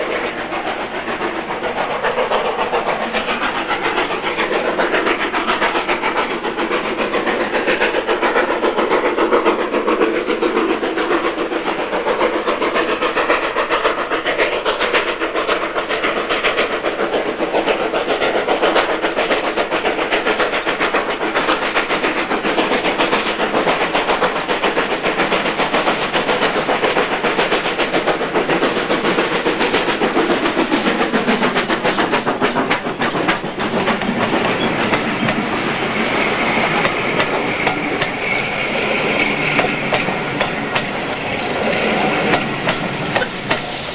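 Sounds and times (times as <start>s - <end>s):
train wheels clattering over rails: 0.0s - 43.9s.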